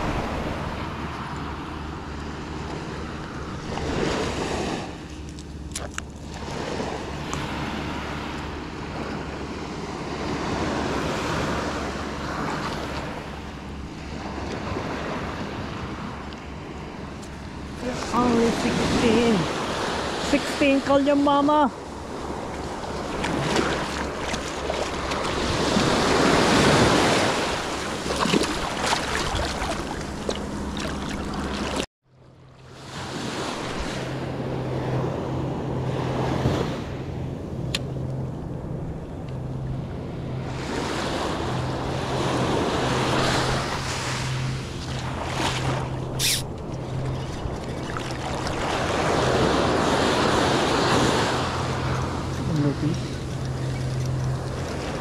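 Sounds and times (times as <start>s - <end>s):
ocean surf breaking: 0.0s - 5.3s, 6.2s - 31.9s, 32.7s - 55.0s
steady low hum: 0.0s - 55.0s.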